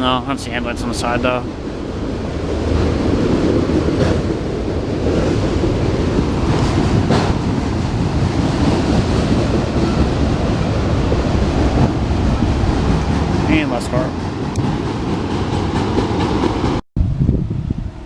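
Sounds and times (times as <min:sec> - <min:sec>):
train wheels rumbling on rails: 0:00.0 - 0:16.8
wind buffeting microphone: 0:00.0 - 0:18.0.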